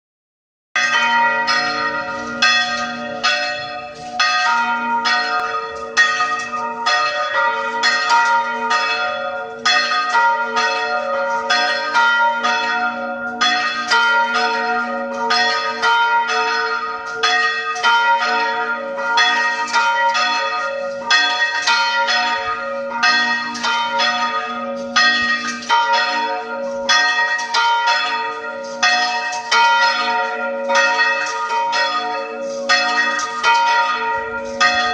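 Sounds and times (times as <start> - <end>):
church bells ringing: 0.8 - 34.9.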